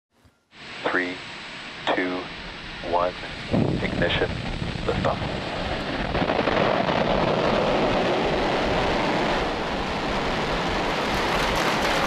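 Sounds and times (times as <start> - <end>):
rocket engines roaring at liftoff: 0.6 - 12.0.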